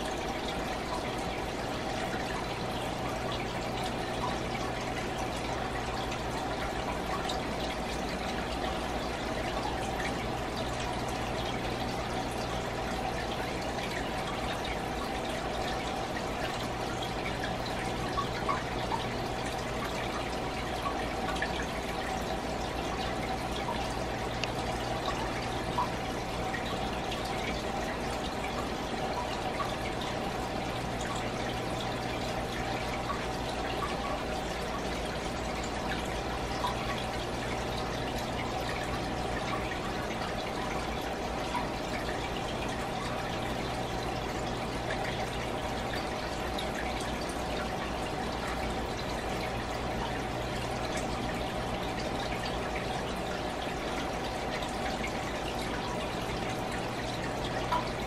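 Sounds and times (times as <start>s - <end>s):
light water drips: 0.0s - 58.0s
low steady hum: 0.0s - 58.0s
water trickling in aquarium: 0.0s - 58.0s.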